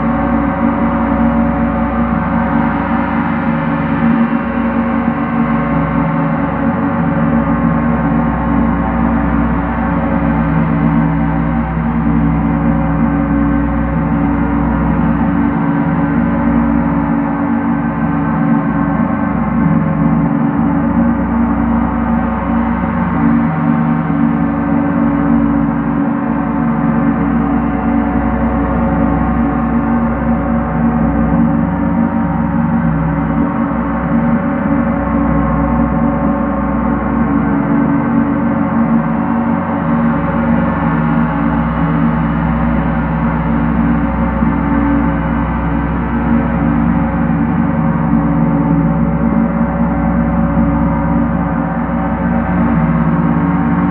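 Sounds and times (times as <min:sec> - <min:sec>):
gong played with mallets: 0:00.0 - 0:53.9.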